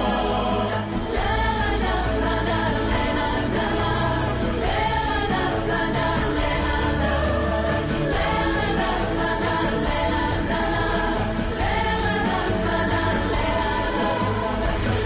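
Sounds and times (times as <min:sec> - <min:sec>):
music with singing: 0:00.0 - 0:15.0.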